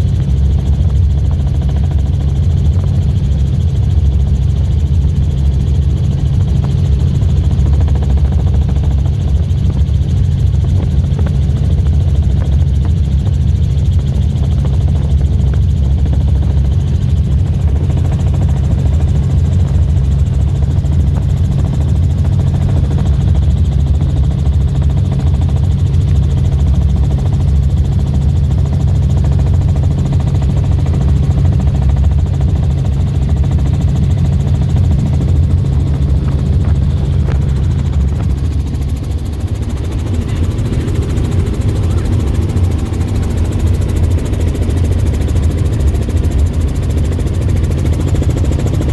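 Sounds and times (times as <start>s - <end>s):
helicopter drone: 0.0s - 48.9s.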